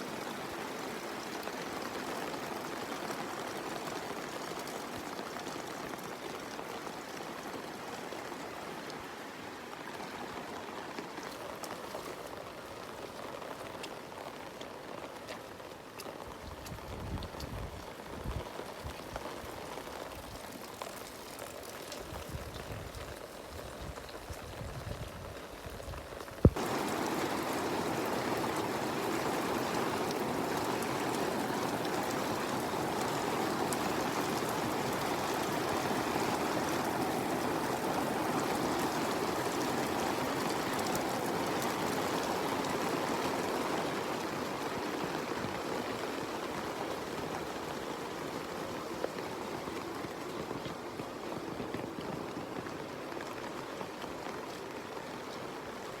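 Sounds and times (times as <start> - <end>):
heavy rain and running water: 0.0 - 56.0.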